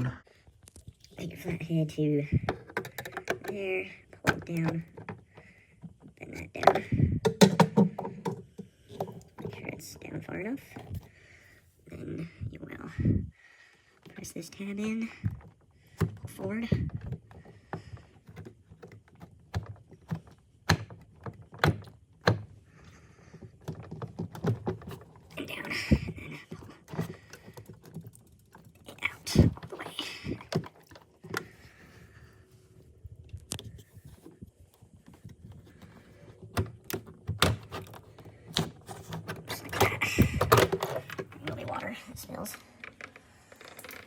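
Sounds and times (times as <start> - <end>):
plastic parts clicking and knocking: 0.6 - 11.1, 14.0 - 44.0.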